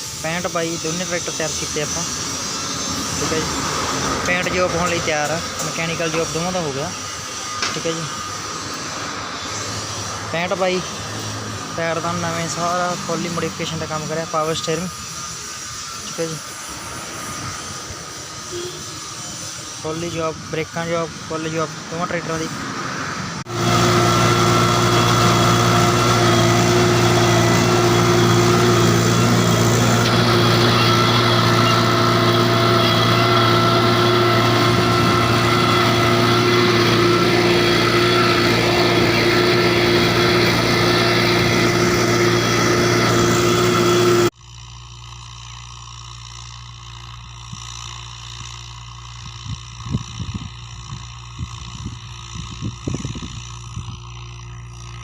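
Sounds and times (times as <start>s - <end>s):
tractor diesel engine running: 0.0s - 22.6s, 23.3s - 44.4s, 45.2s - 55.0s.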